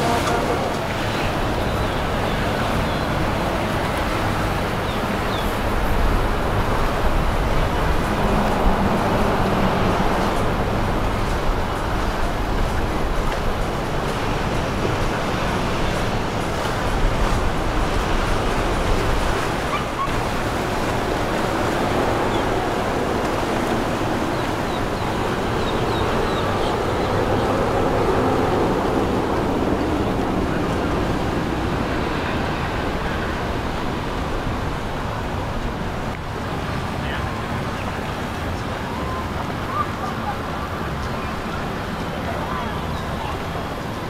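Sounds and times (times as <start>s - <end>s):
boat engines rumbling: 0.0s - 44.0s
water rushing along hull: 0.0s - 44.0s.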